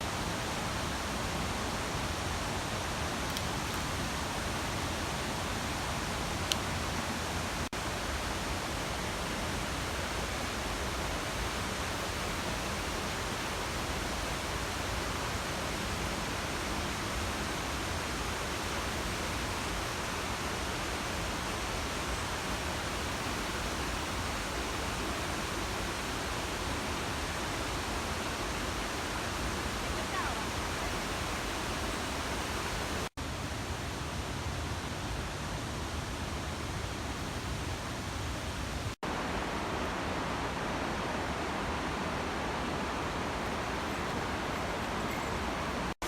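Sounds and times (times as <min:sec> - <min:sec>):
river water roaring over falls: 0:00.0 - 0:46.0.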